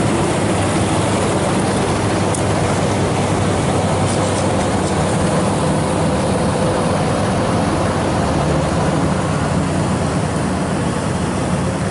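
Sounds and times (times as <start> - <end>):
combine harvester engine running: 0.0 - 11.9.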